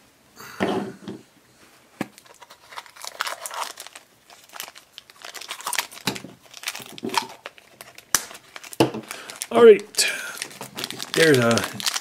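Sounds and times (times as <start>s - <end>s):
plastic bag crinkling and tearing: 2.1s - 12.0s.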